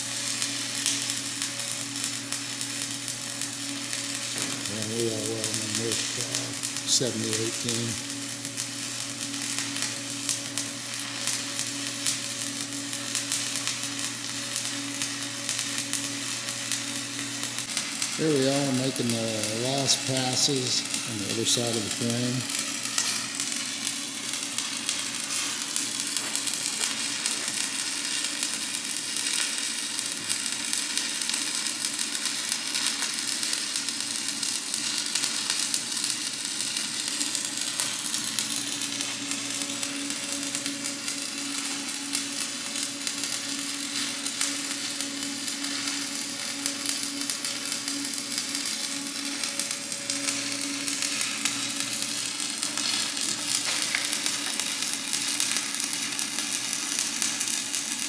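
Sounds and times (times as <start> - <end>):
welding arc crackling: 0.0 - 58.0.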